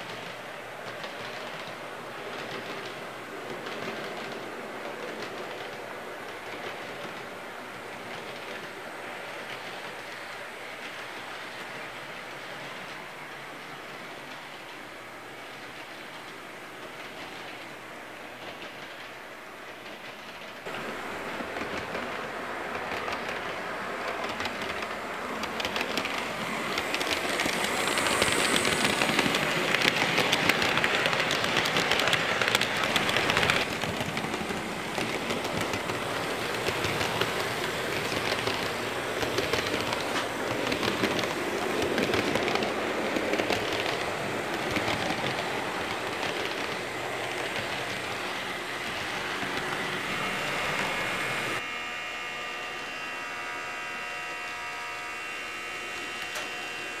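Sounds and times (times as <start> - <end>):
train wheels clicking on rails: 0.0 - 51.7, 54.1 - 57.0.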